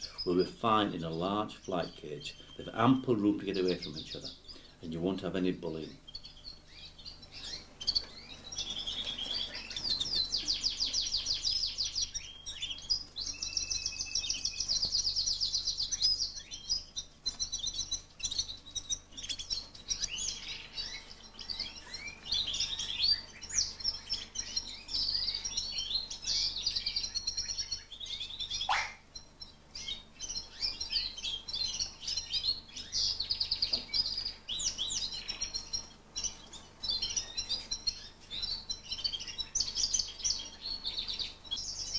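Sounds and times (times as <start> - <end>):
canaries singing trills: 0.0 - 41.9.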